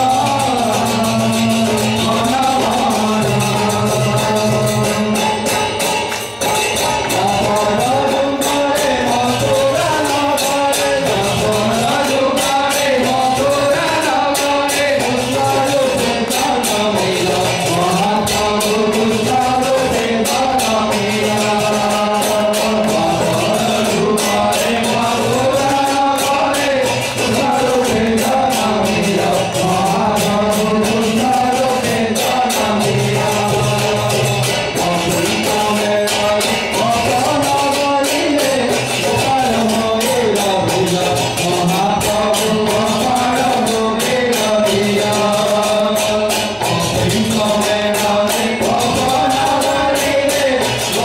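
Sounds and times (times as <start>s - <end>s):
men singing in unison: 0.0s - 51.0s
percussion steady beat: 0.0s - 51.0s.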